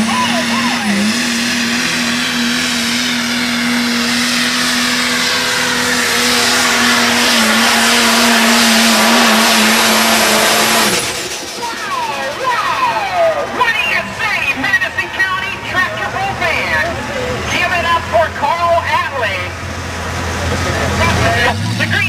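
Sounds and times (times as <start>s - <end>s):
truck engine roaring at high revs: 0.0s - 22.0s.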